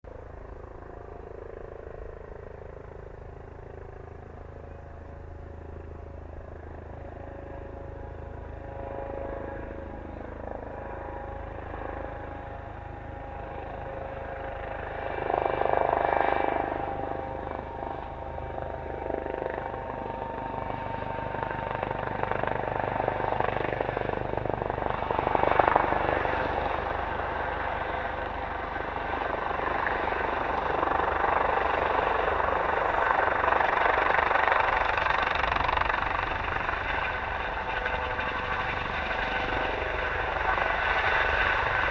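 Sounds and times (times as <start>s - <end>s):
helicopter rotor and engine: 0.1s - 41.9s.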